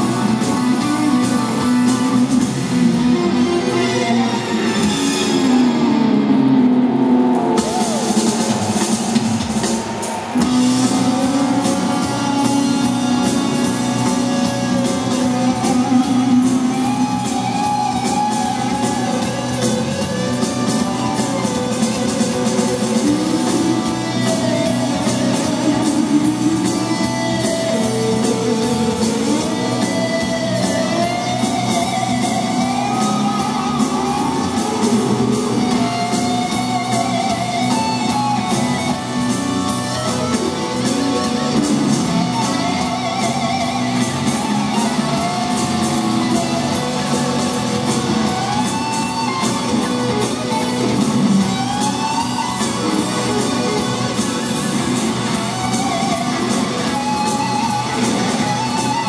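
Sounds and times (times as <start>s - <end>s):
electric guitar lead: 0.0s - 59.0s
rock band playing: 0.0s - 59.0s.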